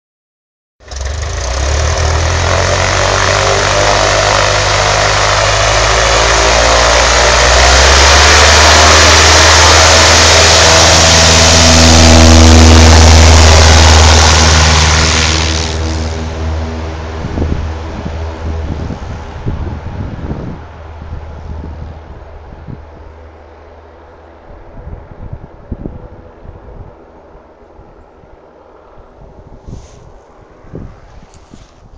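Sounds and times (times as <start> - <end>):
propeller plane engine drone: 0.8 - 31.9.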